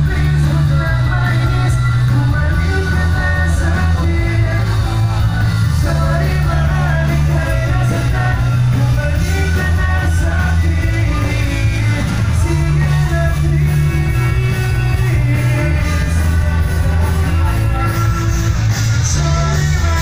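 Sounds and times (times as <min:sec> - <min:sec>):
bass notes: 0:00.0 - 0:20.0
drums: 0:00.0 - 0:20.0
electric guitar: 0:00.0 - 0:20.0
man singing: 0:00.0 - 0:20.0.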